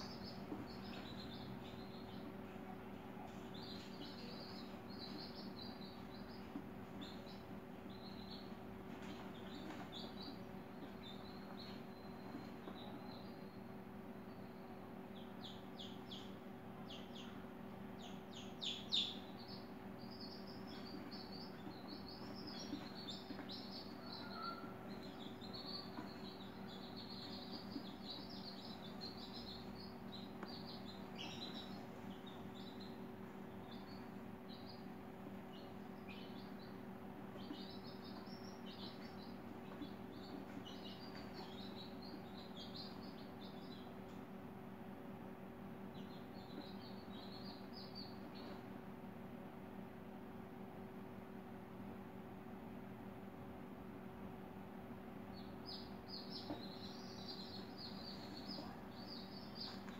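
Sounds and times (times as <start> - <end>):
small birds chirping: 0.0 - 51.9, 54.5 - 59.9
steady low hum: 0.0 - 59.9.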